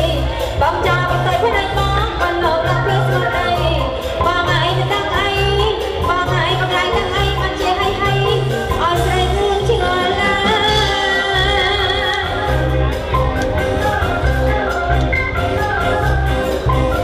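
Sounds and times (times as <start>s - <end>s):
heavy bass line: 0.0s - 17.0s
music with singing voice: 0.0s - 17.0s.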